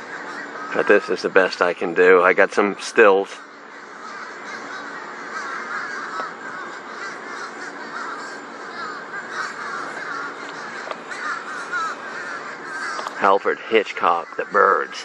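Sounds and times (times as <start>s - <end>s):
flock of crows cawing: 0.0s - 15.0s.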